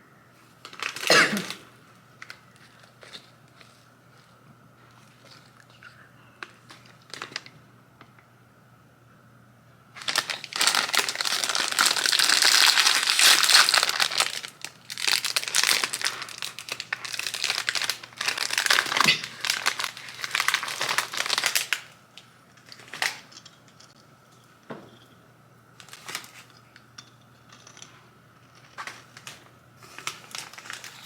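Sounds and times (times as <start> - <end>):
crinkling and rustling: 0.4 - 5.8, 6.4 - 7.6, 10.0 - 25.1, 25.8 - 31.0.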